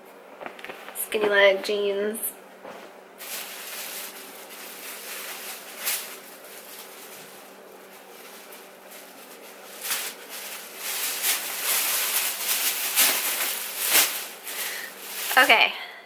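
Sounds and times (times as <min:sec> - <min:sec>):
clothes and bag rustling: 0:00.4 - 0:01.6, 0:02.6 - 0:15.7.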